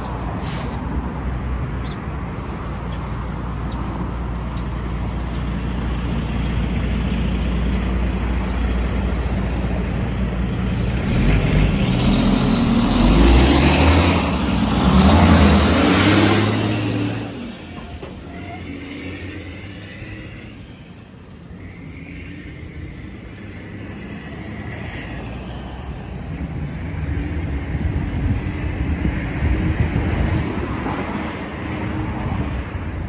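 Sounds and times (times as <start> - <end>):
traffic rumble: 0.0 - 33.0
vehicle passing: 0.0 - 33.0.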